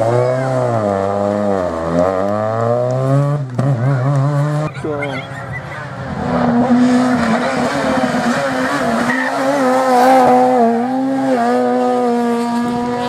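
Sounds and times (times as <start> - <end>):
rally car engine revving high: 0.0 - 13.0.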